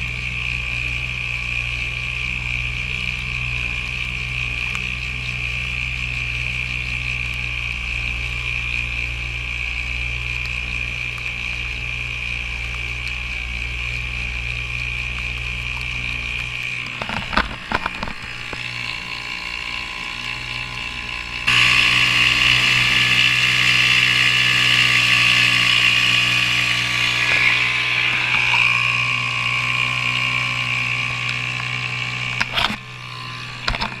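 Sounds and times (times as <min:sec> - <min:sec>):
outboard motor running: 0:00.0 - 0:34.0
water splashing along hull: 0:00.0 - 0:34.0.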